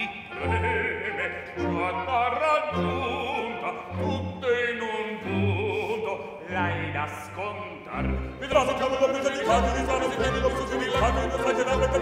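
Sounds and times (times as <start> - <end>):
man singing opera: 0.0 - 12.0
orchestra playing: 0.0 - 12.0.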